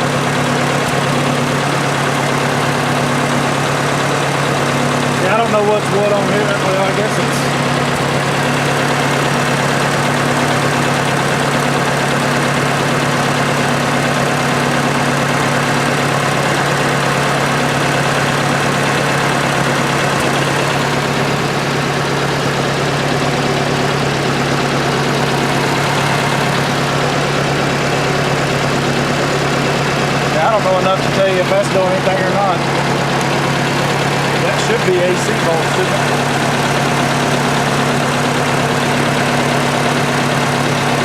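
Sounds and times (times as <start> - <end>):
tractor engine idling: 0.0 - 41.0.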